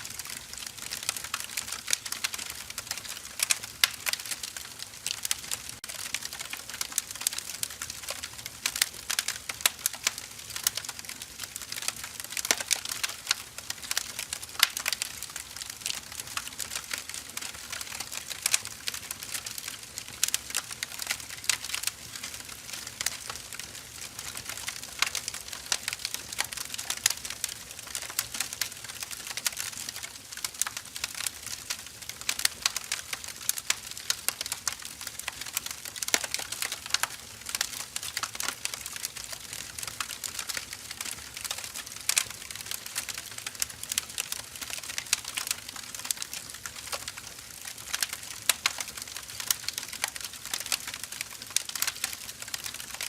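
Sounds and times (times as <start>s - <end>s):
firewood burning and crackling: 0.0s - 53.0s.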